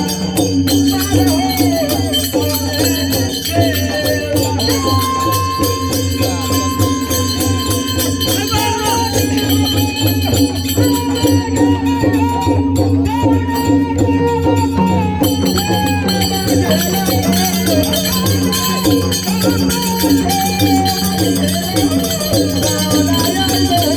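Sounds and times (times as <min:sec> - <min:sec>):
jingling rattling percussion: 0:00.0 - 0:23.9
wavering folk melody: 0:00.0 - 0:23.9.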